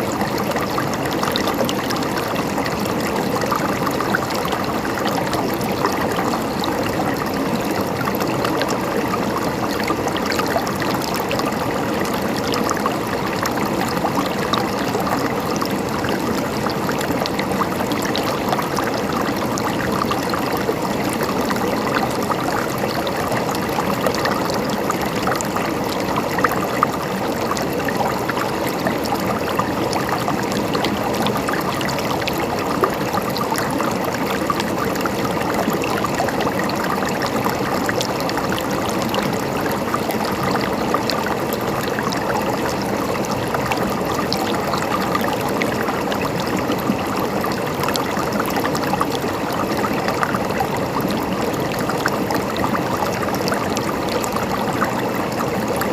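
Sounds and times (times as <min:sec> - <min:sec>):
stream trickling and gurgling: 0:00.0 - 0:55.9.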